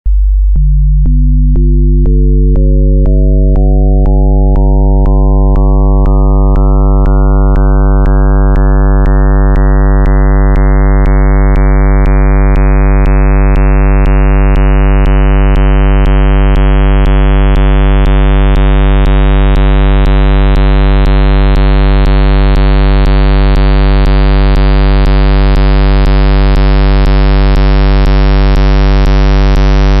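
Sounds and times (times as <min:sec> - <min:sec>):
synthesized tone turning buzzy: 0:00.6 - 0:30.0.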